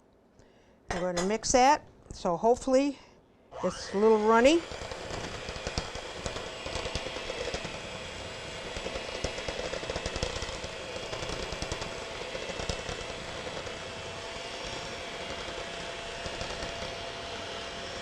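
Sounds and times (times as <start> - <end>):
electric hand mixer running: 3.5 - 18.0.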